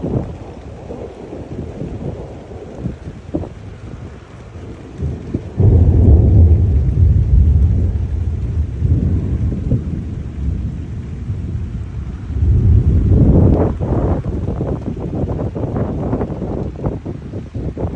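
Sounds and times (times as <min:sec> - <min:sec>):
thunder rumbling: 0:00.0 - 0:17.9.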